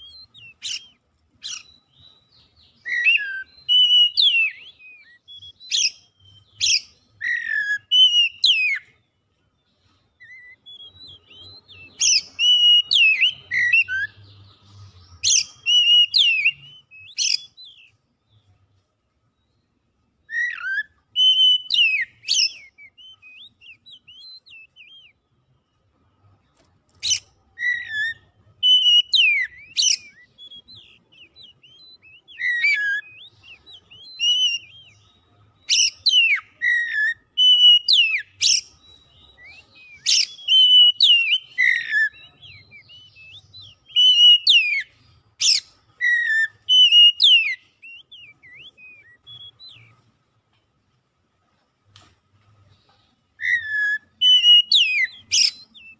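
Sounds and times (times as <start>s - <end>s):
bird whistling song: 0.0s - 18.6s, 19.3s - 50.2s, 52.6s - 55.9s.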